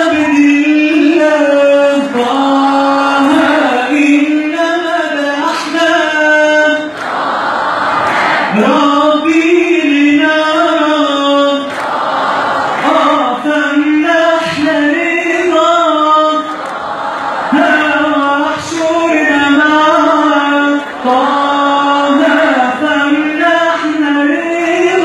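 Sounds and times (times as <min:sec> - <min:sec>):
man singing devotional chant: 0:00.0 - 0:07.0, 0:08.5 - 0:11.8, 0:12.7 - 0:16.8, 0:17.5 - 0:25.0
crowd singing along: 0:00.0 - 0:25.0.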